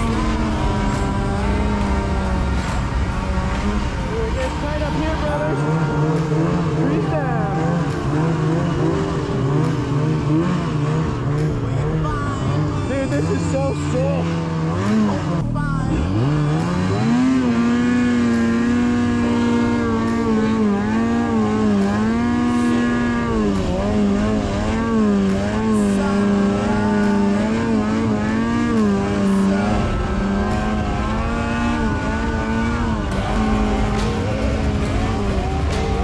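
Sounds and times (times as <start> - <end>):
snowmobile engine revving: 0.0 - 36.0.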